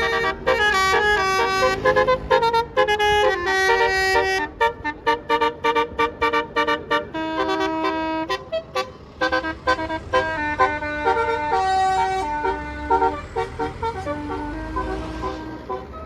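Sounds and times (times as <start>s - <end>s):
bus horn playing a melody: 0.0s - 16.0s.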